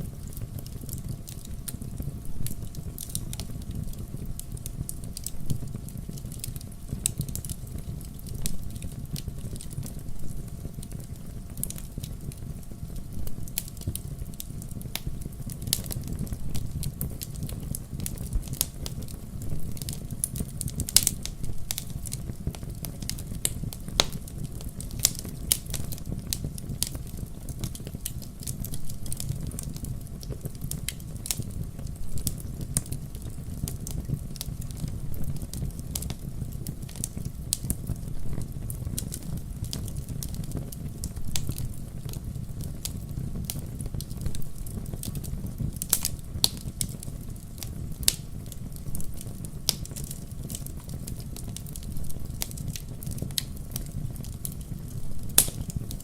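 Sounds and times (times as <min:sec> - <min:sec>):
fire crackling and popping: 0:00.0 - 0:56.0
fire flames rumbling: 0:00.0 - 0:56.0.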